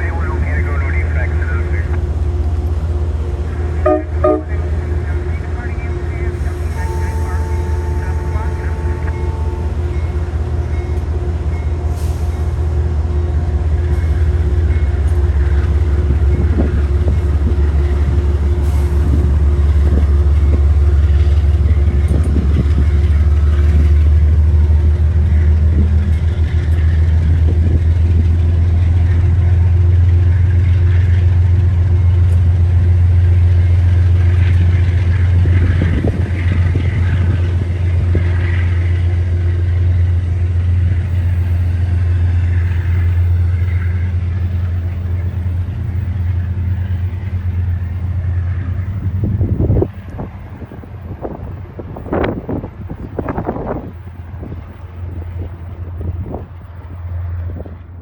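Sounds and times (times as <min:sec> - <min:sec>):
train diesel engine drone: 0:00.0 - 0:58.0.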